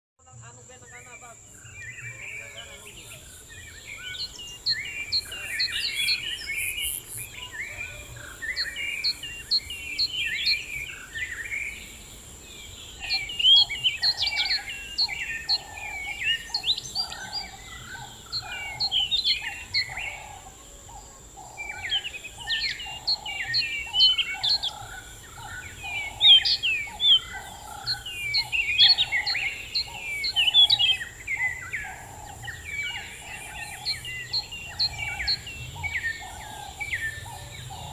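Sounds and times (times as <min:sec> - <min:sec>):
birds singing: 0:00.2 - 0:37.9.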